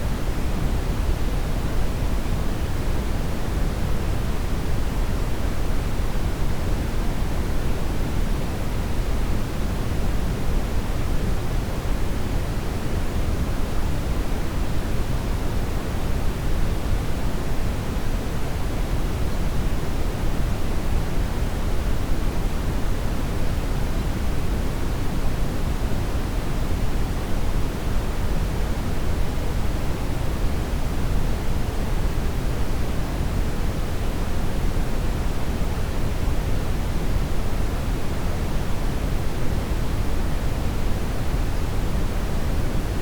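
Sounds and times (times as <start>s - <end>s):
brown noise hiss: 0.0s - 43.0s.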